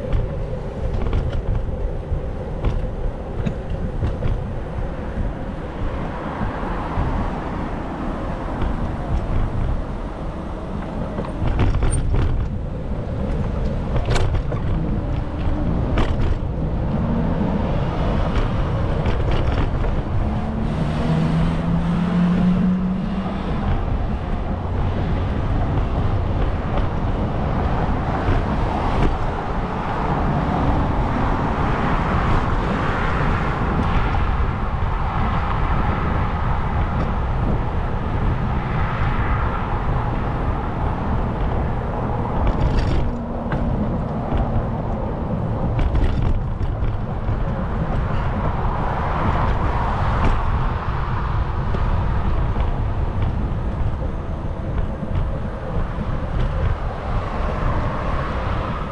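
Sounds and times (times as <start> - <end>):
city traffic rumble: 0.0 - 58.9.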